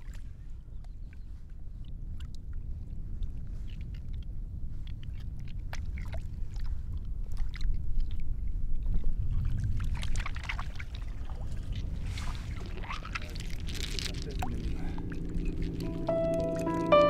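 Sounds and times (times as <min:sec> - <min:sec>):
low water rumble: 0:00.0 - 0:17.0
water splashing and trickling: 0:03.2 - 0:17.0.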